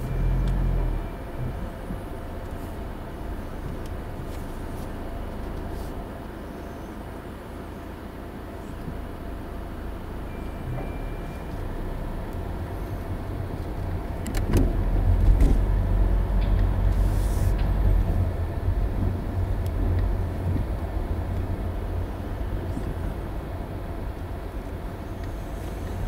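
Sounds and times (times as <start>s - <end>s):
car rumbling up a ramp: 0.0s - 5.8s, 8.9s - 26.0s.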